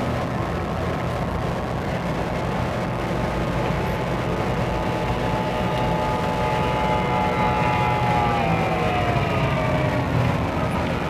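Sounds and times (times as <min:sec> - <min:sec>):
outboard engine running: 0:00.0 - 0:11.0
rushing water noise: 0:00.0 - 0:11.0.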